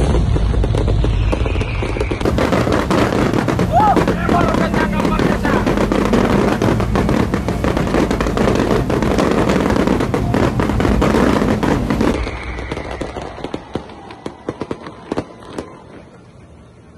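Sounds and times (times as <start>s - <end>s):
low rumble: 0.0s - 14.4s
fireworks crackling and popping: 0.0s - 16.7s.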